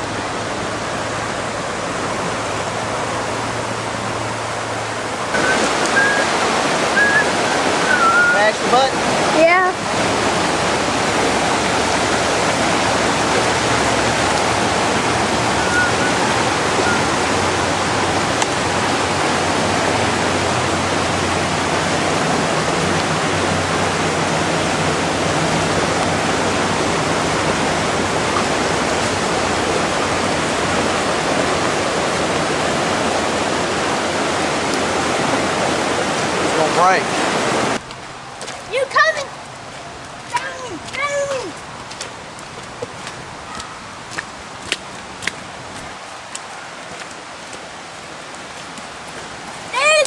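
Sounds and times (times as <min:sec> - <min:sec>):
floodwater rushing: 0:00.0 - 0:50.0.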